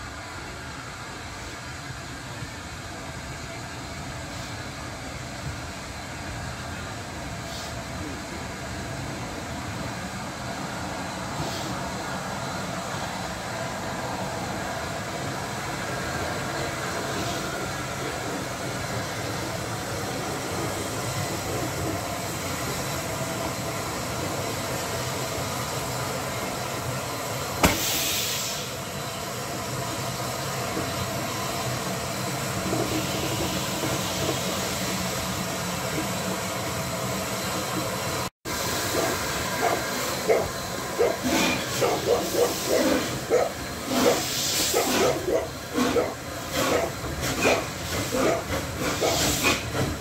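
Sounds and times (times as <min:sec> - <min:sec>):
steam hissing: 0:00.0 - 0:50.0
steam locomotive rumble: 0:00.0 - 0:50.0.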